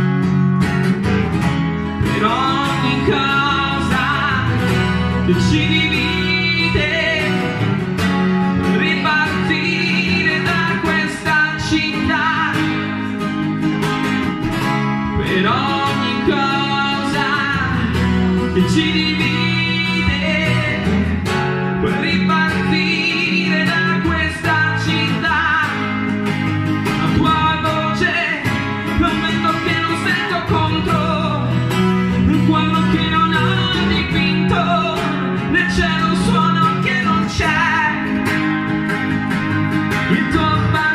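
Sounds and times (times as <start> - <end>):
acoustic guitar: 0.0 - 40.9
man singing into a microphone: 1.7 - 13.6, 14.8 - 38.7, 39.8 - 40.9.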